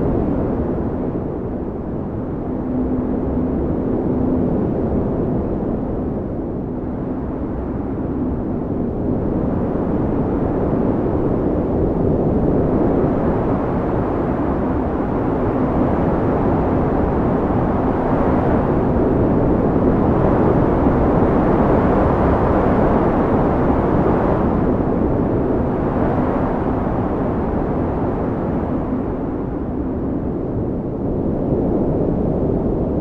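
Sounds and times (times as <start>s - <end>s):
blizzard wind rushing: 0.0s - 33.0s
faint low wind howl: 0.0s - 33.0s.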